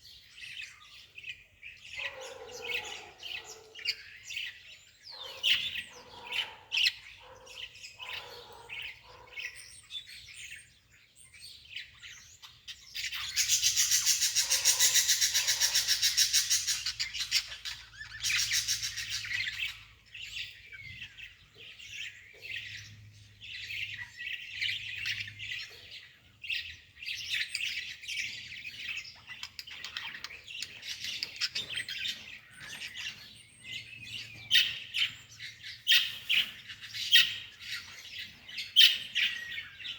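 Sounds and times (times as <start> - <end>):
birds chirping: 0.0 - 39.9
rapid bird chatter: 0.0 - 39.9.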